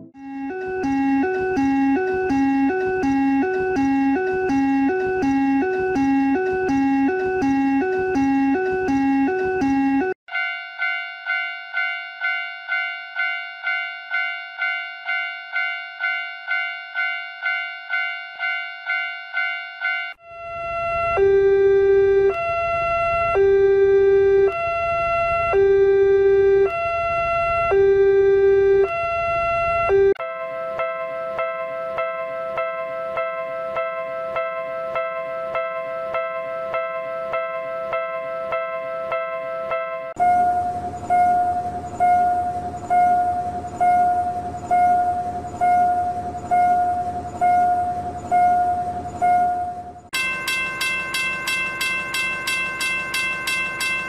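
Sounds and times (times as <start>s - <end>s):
two-tone level-crossing alarm: 0.1s - 30.2s, 40.1s - 54.0s.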